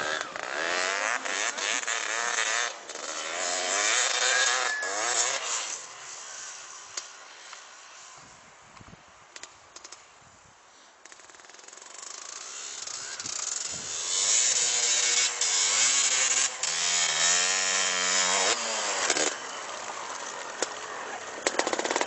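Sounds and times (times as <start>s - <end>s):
snow bike engine passing: 0.0s - 8.3s, 11.6s - 22.0s.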